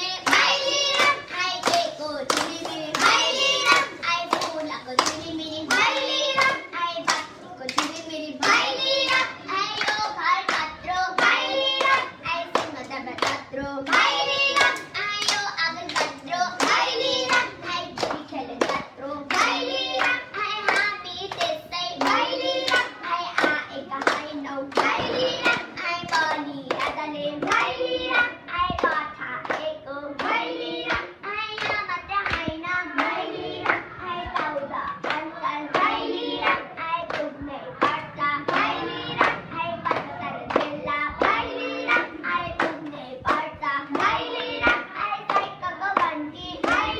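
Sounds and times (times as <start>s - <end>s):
girls singing together: 0.0s - 46.9s
hands clapping a beat: 0.0s - 46.9s.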